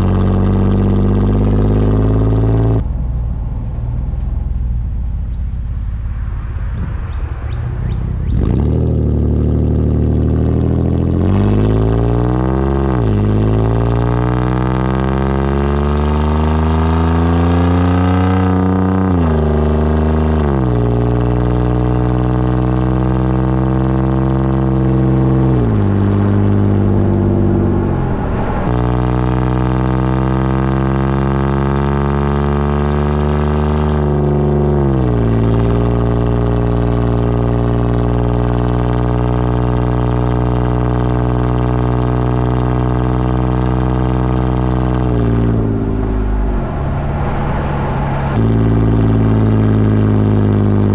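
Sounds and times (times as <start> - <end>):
minivan engine exhaust drone: 0.0 - 50.9.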